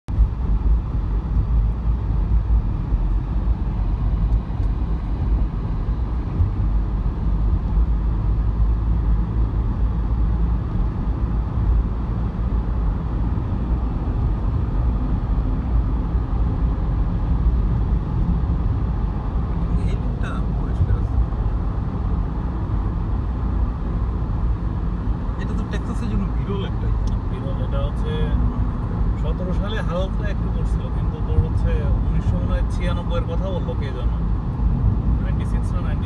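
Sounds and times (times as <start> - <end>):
car engine and tyre rumble: 0.1 - 36.0.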